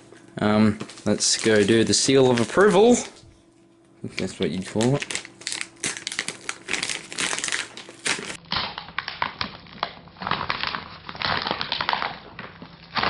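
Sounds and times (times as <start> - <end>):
plastic bag crinkling: 0.0 - 3.2, 4.1 - 13.0.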